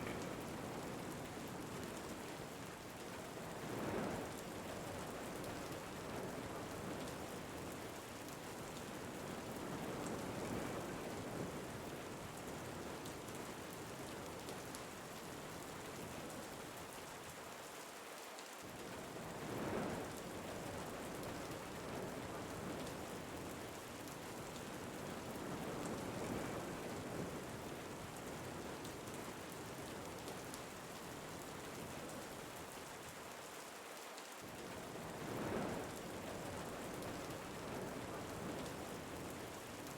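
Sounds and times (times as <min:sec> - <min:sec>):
steady rain falling: 0:00.0 - 0:39.9
wind: 0:00.0 - 0:39.9.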